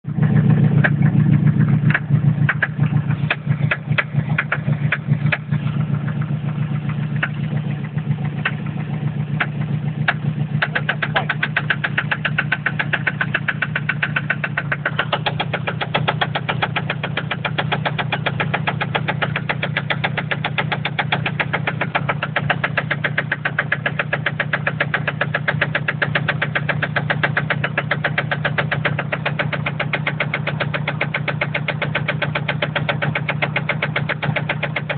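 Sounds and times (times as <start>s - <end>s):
car engine running with a knock: 0.0s - 34.9s.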